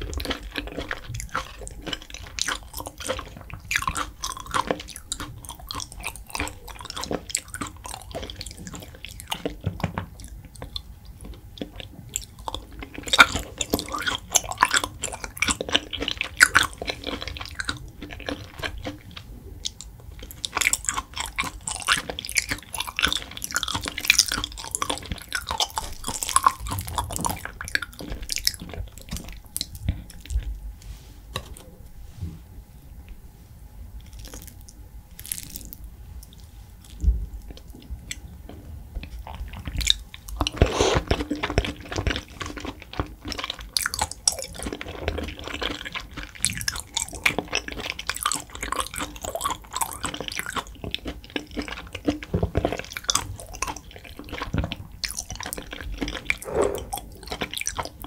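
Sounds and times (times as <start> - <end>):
chewing raw meat: 0.0 - 30.7, 34.0 - 58.0.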